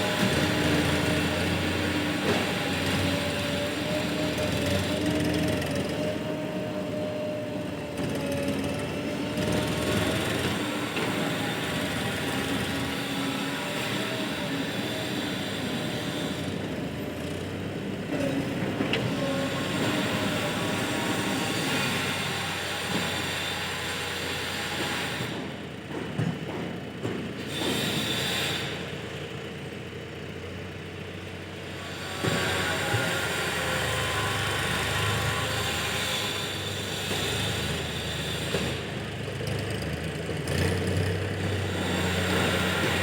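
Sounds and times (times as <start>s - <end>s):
heavy diesel machinery running: 0.0s - 43.0s.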